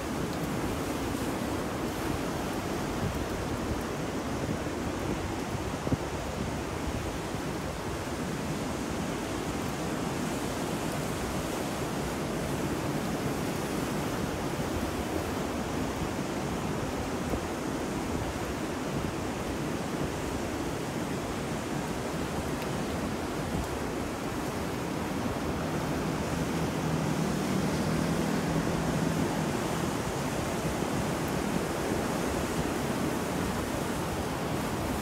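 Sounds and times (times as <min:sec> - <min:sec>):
ocean surf: 0:00.0 - 0:35.0
rain: 0:00.0 - 0:35.0
wind: 0:00.0 - 0:35.0.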